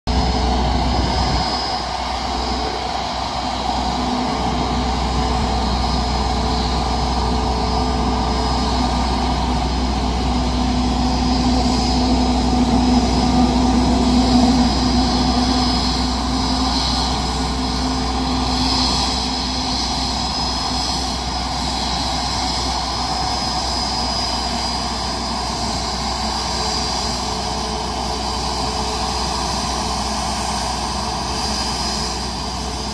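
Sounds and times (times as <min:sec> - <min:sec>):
jet engines idling: 0:00.1 - 0:32.9.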